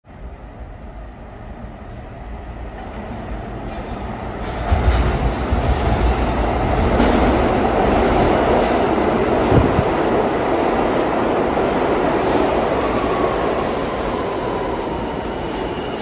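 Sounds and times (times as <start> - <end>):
subway train wheels rumbling on rails: 0.1 - 16.0.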